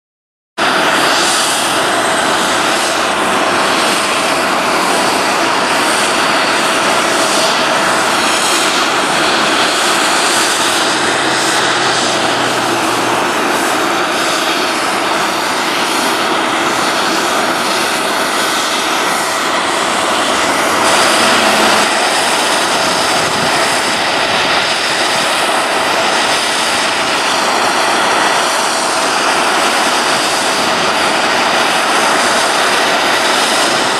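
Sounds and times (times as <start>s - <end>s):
engine whine: 0.6s - 33.9s
jet engines rushing: 0.6s - 33.9s.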